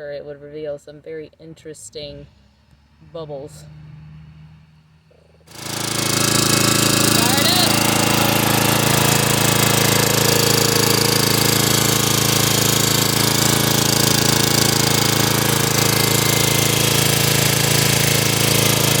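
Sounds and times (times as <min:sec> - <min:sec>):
small engine running steadily: 0:02.0 - 0:19.0.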